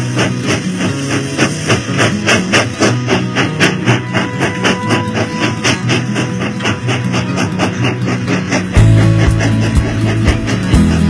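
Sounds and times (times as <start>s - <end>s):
music with fast steady beat: 0.0s - 11.0s.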